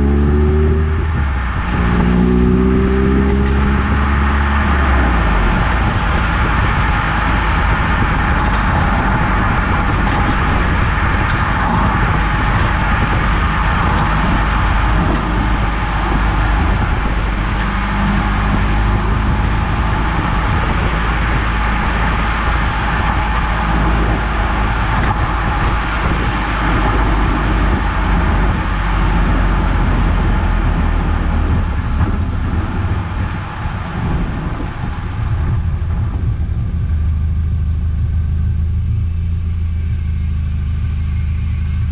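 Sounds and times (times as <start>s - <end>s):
car engine running: 0.0s - 41.9s
road and tyre noise: 0.0s - 41.9s.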